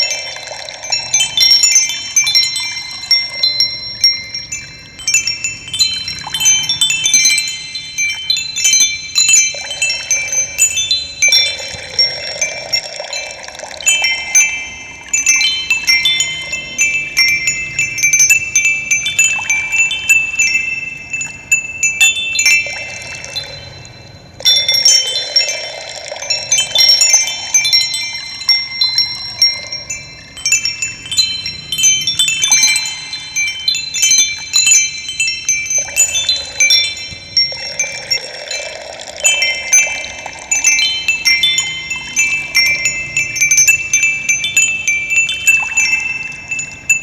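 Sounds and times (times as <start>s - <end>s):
water flowing softly: 0.0s - 47.0s
wind chimes tinkling: 0.0s - 47.0s.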